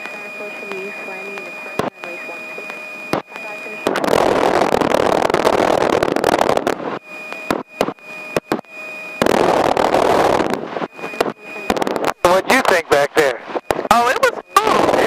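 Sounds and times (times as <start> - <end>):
faint electronic whine: 0.0 - 15.0.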